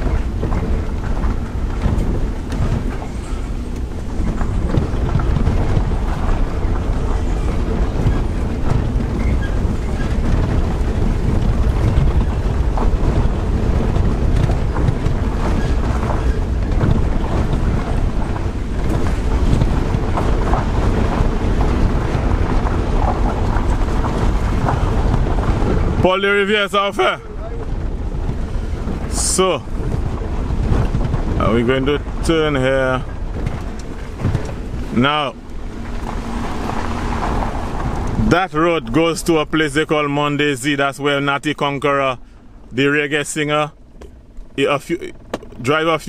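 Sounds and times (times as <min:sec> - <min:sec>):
car engine and road rumble: 0:00.0 - 0:46.0
wind buffeting microphone: 0:00.0 - 0:46.0.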